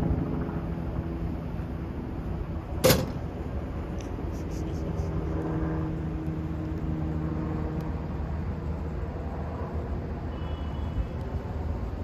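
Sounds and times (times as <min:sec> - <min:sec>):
city traffic rumble: 0:00.0 - 0:12.0
low droning hum: 0:00.0 - 0:12.0.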